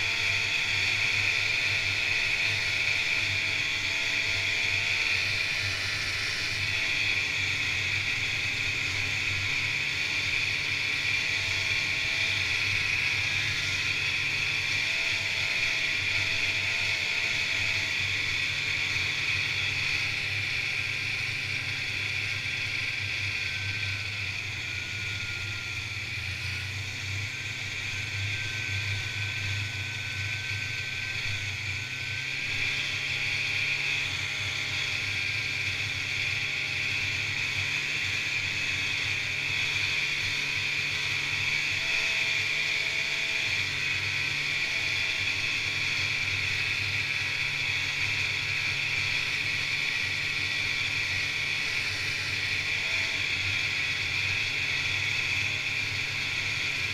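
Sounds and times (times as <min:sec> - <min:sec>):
snowmobile engine running: 0:00.0 - 0:56.9.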